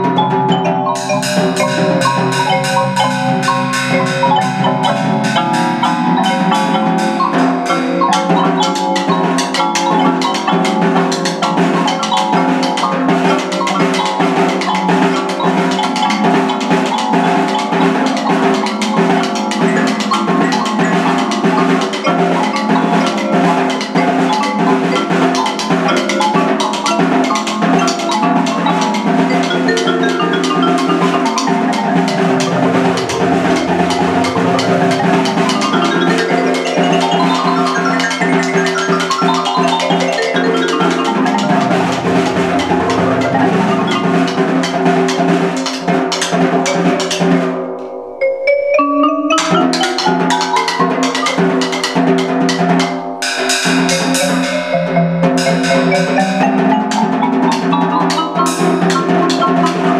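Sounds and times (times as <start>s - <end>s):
electronic keyboard held notes: 0.0s - 51.7s.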